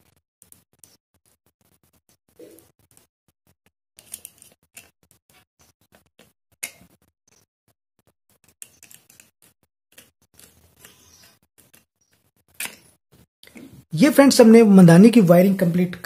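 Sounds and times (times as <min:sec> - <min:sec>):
small clicks and scratches: 0:00.0 - 0:13.6.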